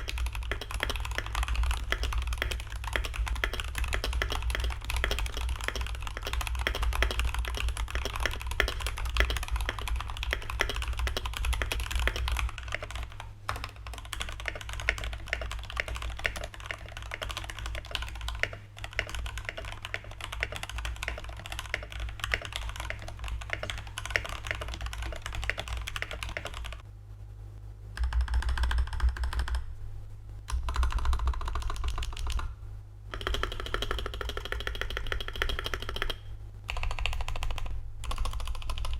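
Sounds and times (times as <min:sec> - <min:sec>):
mechanical keyboard keystroke clacks: 0:00.0 - 0:26.8, 0:30.5 - 0:32.5, 0:33.1 - 0:38.9.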